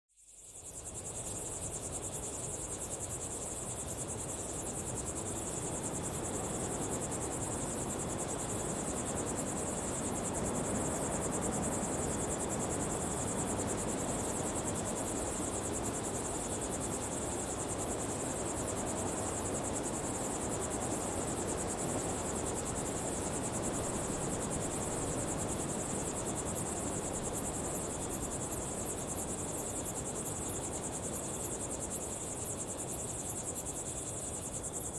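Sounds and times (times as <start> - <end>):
insects chorus pulsing: 0.3 - 34.9.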